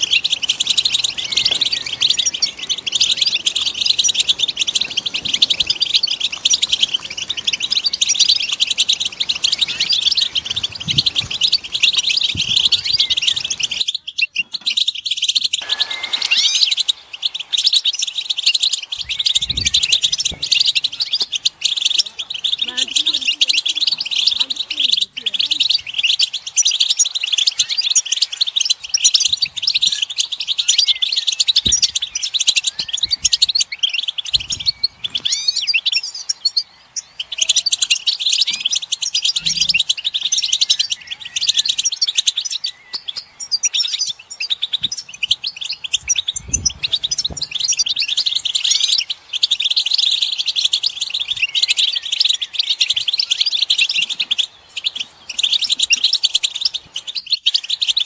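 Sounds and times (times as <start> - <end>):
finches twittering: 0.0 - 58.0.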